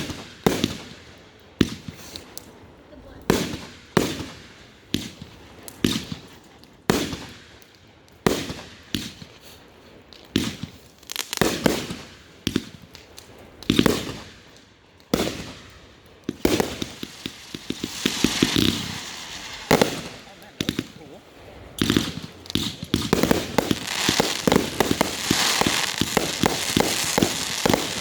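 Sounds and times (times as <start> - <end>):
fireworks booming with echo: 0.0 - 2.2, 3.2 - 7.6, 10.3 - 28.0
small firework cracks: 0.0 - 28.0.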